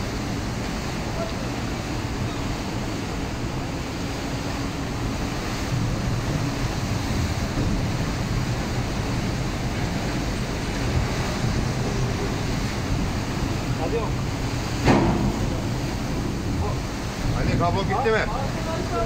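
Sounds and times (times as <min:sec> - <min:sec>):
water rushing along ship hull: 0:00.0 - 0:19.0.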